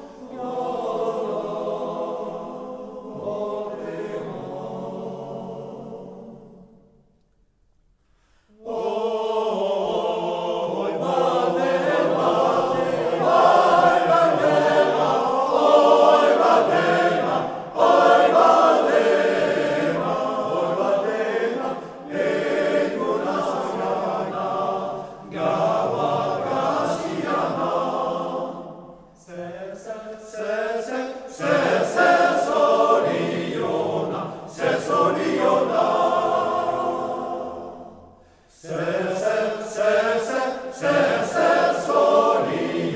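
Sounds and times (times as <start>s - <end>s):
men's choir singing a cappella: 0.0s - 7.0s, 8.4s - 42.9s.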